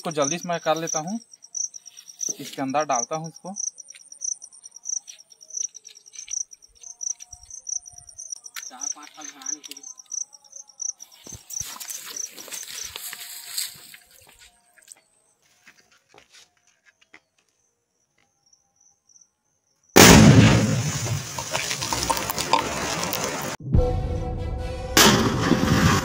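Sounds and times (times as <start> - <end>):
crickets chirping: 0.0 - 15.6, 16.6 - 20.0, 20.8 - 23.6.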